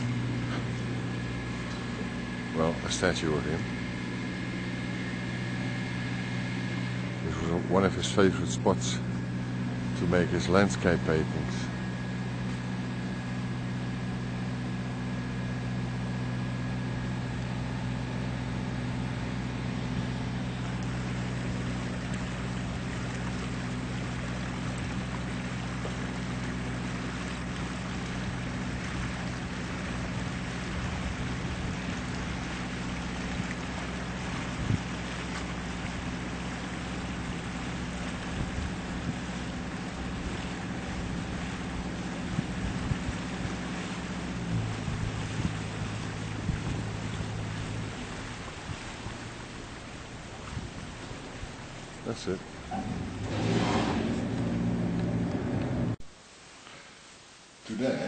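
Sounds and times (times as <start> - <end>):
boat engine droning: 0.0 - 58.0
water noise: 0.0 - 58.0.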